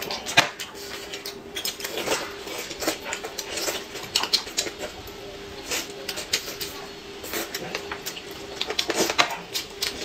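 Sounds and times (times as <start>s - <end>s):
faint steady hum: 0.0s - 10.0s
chewing and lip smacking: 0.1s - 10.0s.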